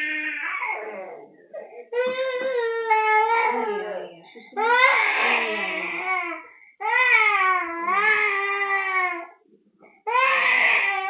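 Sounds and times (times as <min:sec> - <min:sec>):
baby crying: 0:00.0 - 0:09.3, 0:10.1 - 0:11.0.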